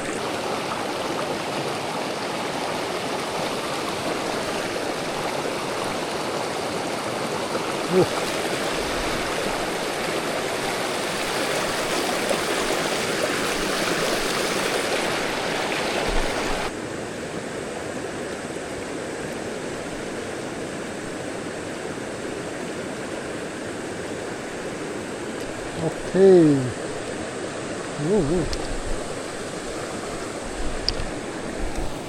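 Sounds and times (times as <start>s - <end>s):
river flowing over rocks: 0.0s - 32.0s.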